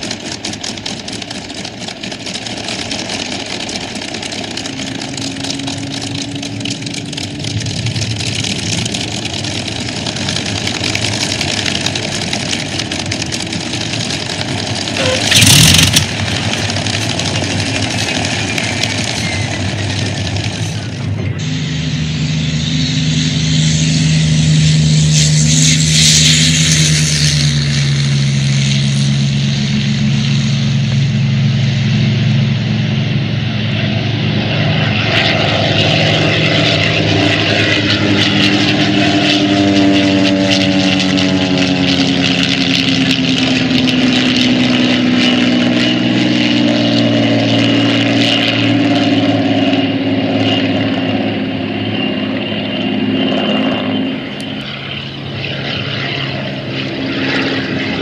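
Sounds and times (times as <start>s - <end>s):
piston aircraft engine running: 0.0s - 58.0s.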